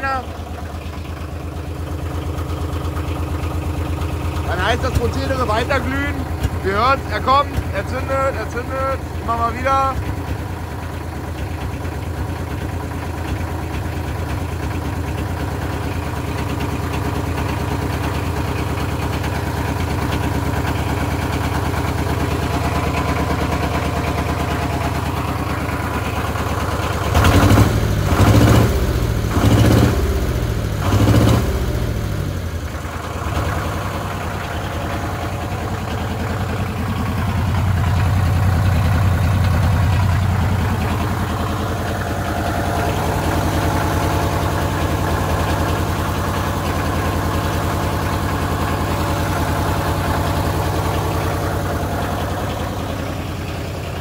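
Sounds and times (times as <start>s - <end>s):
diesel generator running unevenly: 0.0s - 54.0s.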